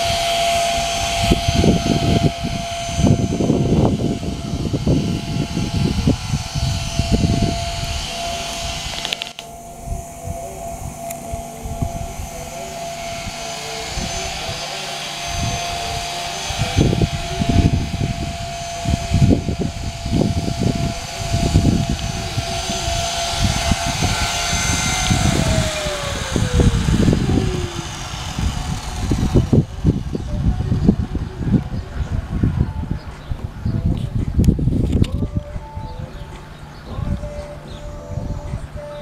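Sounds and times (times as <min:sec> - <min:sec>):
gusty low rumble: 0:00.0 - 0:37.4
model helicopter motor whine: 0:00.0 - 0:39.0.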